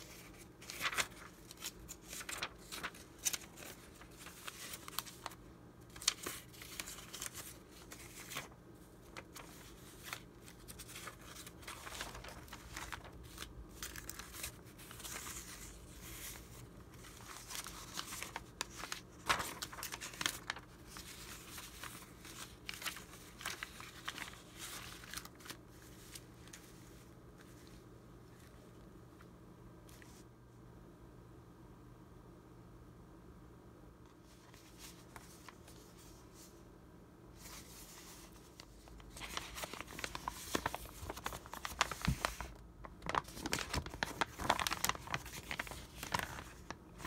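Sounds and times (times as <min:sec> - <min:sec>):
paper rustling and crinkling: 0:00.0 - 0:28.8, 0:34.2 - 0:36.6, 0:37.3 - 0:47.0.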